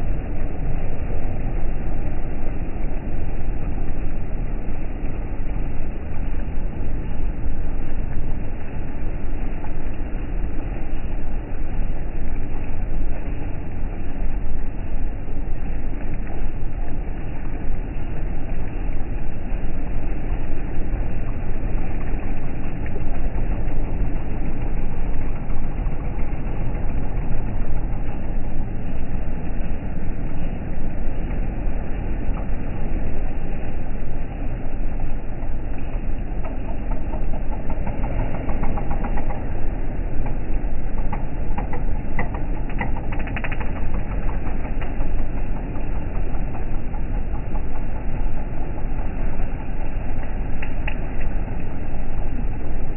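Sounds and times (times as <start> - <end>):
ferry engine running: 0.0 - 52.9
propeller wash churning water: 0.0 - 52.9.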